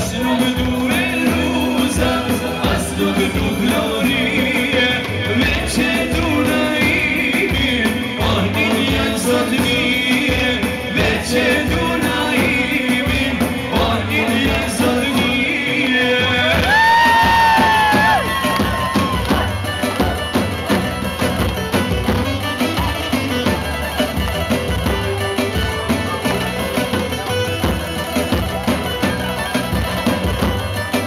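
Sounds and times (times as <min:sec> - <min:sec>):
folk dance music with singing: 0:00.0 - 0:31.0
large drum beating: 0:00.0 - 0:31.0.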